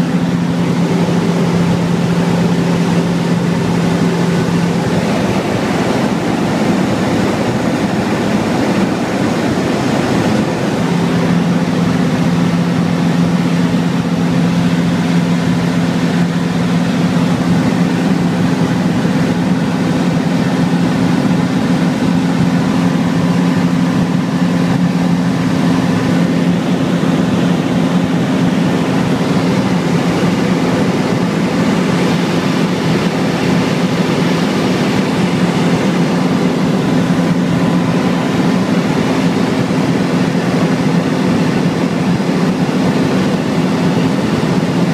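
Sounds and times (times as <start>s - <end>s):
aircraft engine and propeller: 0.0s - 44.9s
rush of air noise: 0.0s - 44.9s.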